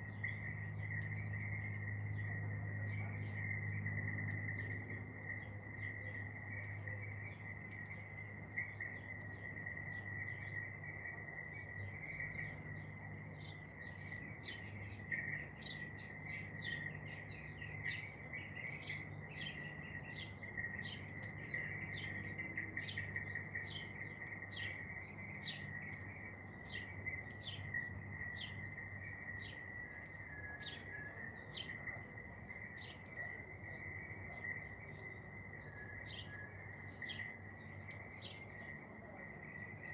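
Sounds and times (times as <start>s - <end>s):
low hum: 0.0s - 39.9s
songbirds chirping: 0.0s - 39.9s.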